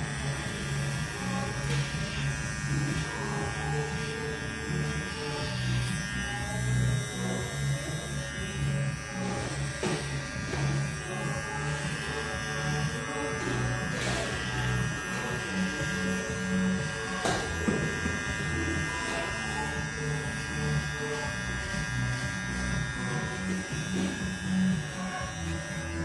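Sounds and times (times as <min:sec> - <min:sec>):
background music: 0:00.0 - 0:26.0
hair trimmer buzzing: 0:00.0 - 0:26.0.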